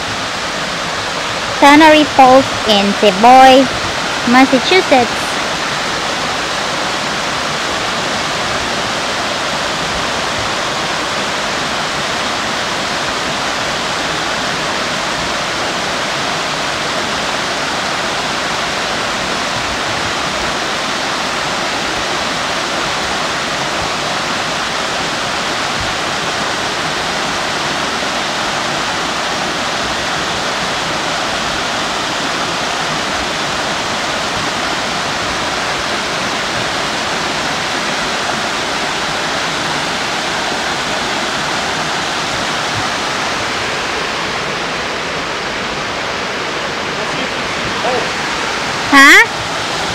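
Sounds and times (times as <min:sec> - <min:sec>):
small waterfalls splashing over rocks: 0:00.0 - 0:01.6, 0:05.0 - 0:49.9.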